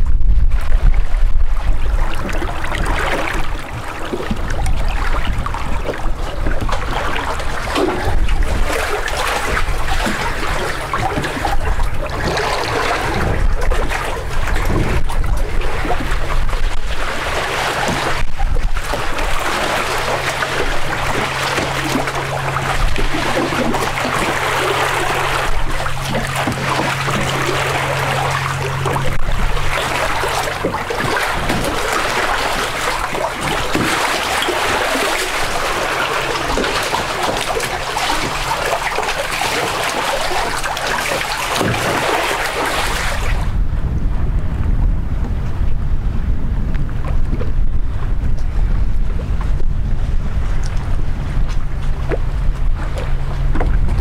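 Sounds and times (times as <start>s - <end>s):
low steady hum: 0.0s - 54.0s
water slapping against hulls: 0.0s - 54.0s.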